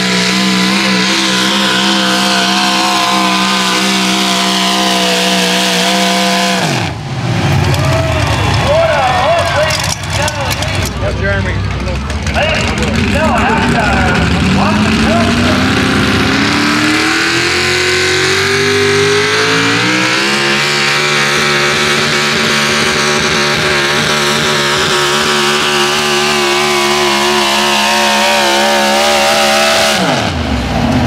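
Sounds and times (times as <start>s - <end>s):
truck engine revving at full throttle: 0.0s - 31.0s.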